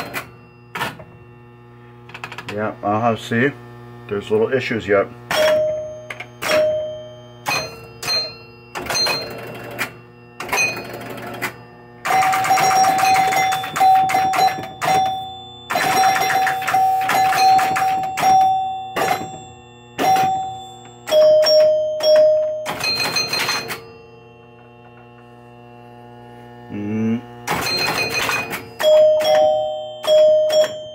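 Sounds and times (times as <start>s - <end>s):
pinball machine chimes ringing: 0.0s - 3.5s, 4.1s - 26.3s, 27.3s - 30.9s.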